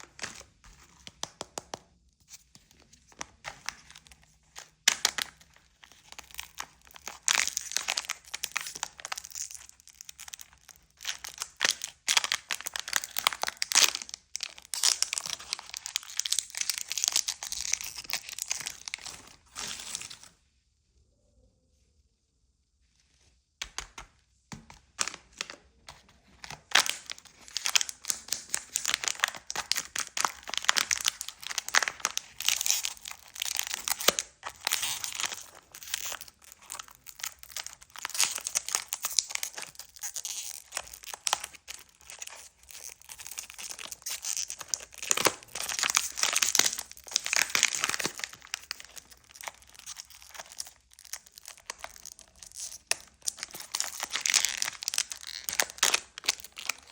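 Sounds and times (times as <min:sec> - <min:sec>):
candy packaging crinkling: 0:00.0 - 0:20.4, 0:23.6 - 0:56.9.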